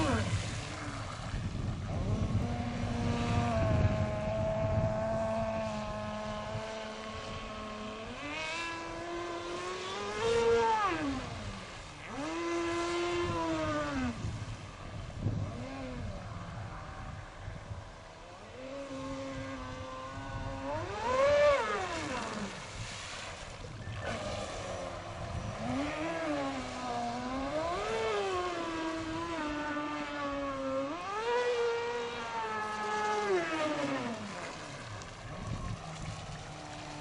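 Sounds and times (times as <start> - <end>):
electric boat motor whining: 0.0 - 37.0.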